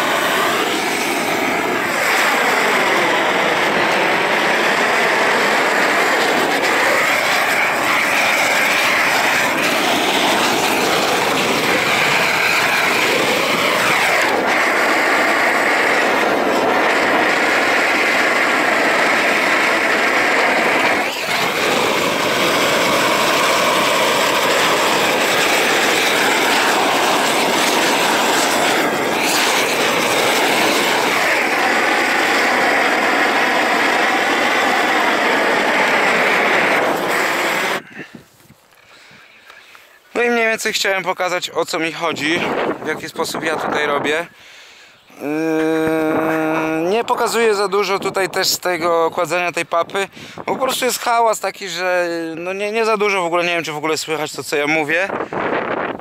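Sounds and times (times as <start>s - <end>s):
gas torch burning: 0.0s - 38.7s, 45.1s - 51.4s.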